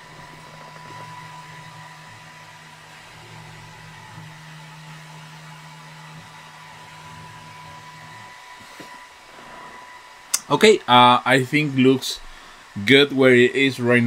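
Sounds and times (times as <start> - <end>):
stepper motor hum: 0.0 - 13.8
thin background whine: 0.0 - 14.0.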